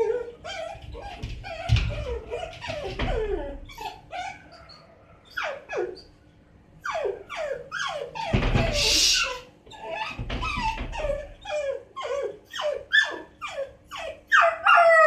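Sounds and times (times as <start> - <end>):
puppy whining and yelping: 0.0 - 6.2, 6.8 - 15.0.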